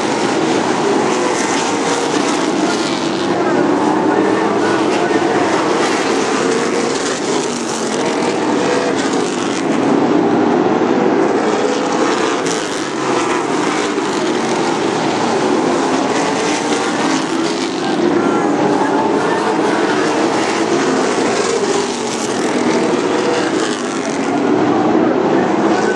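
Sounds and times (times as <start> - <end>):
race car engines droning: 0.0 - 25.9.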